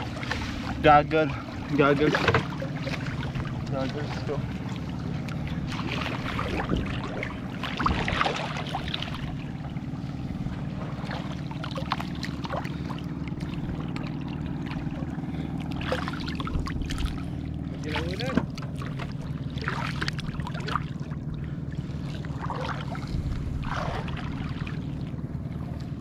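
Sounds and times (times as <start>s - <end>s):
boat engine idling: 0.0s - 26.0s
water splashing and sloshing: 0.0s - 26.0s.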